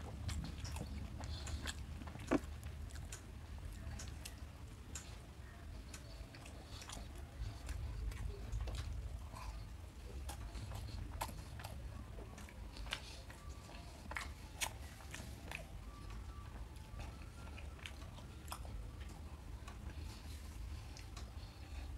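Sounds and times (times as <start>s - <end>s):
chewing crisp fried snack: 0.0s - 21.9s
low steady hum: 0.0s - 21.9s.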